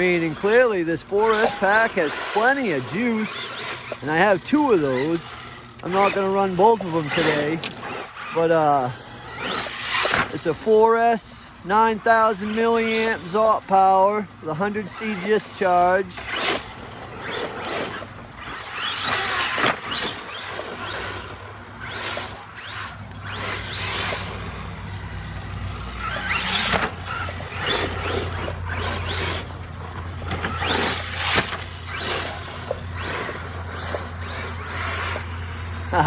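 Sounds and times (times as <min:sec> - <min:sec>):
tyres scrabbling over ground: 0:00.0 - 0:10.8, 0:14.5 - 0:36.0
electric motor whine revving: 0:00.0 - 0:36.0.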